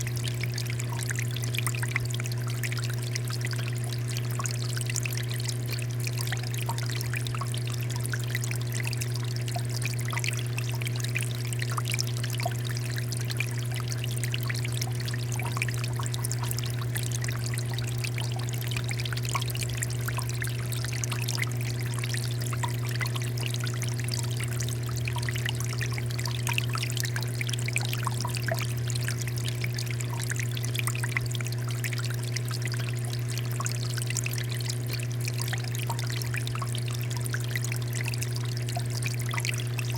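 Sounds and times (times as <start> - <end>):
water fountain pouring: 0.0 - 39.9.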